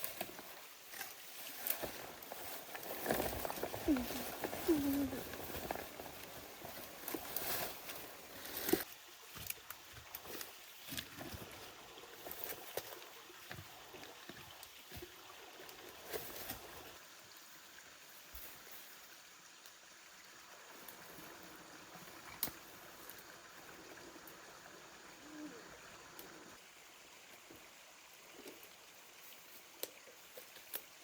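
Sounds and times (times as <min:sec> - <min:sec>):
running water hiss: 0:00.0 - 0:31.0.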